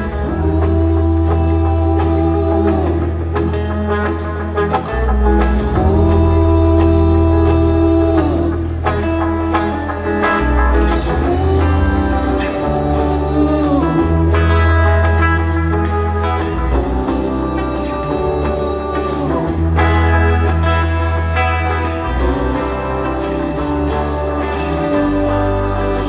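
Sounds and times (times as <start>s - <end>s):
electric guitar lead bending notes: 0.0s - 26.0s
live amplified band: 0.0s - 26.0s.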